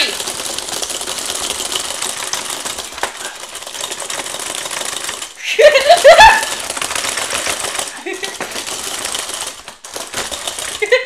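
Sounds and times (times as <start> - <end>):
plastic toy clattering: 0.0 - 11.0.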